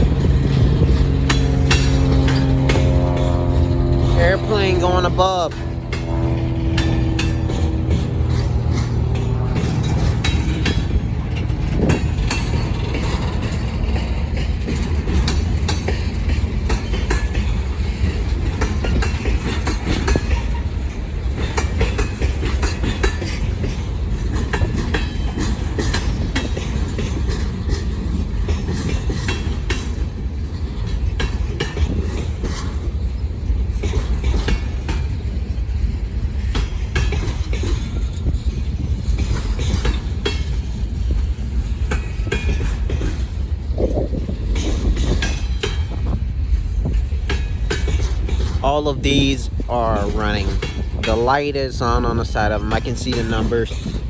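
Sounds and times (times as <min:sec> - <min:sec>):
freight train rolling past: 0:00.0 - 0:54.0
wheels clicking over rail joints: 0:00.0 - 0:54.0.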